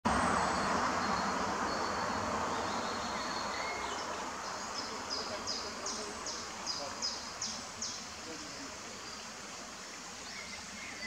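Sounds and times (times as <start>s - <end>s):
outdoor hiss: 0.1s - 11.0s.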